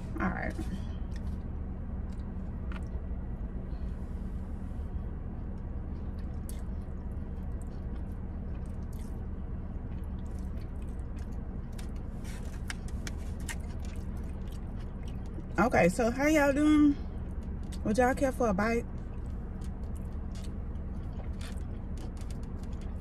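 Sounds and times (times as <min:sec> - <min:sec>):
chewing food: 0:00.0 - 0:03.6, 0:04.9 - 0:16.0, 0:17.1 - 0:17.9, 0:18.8 - 0:23.0
steady low hum: 0:00.0 - 0:23.0.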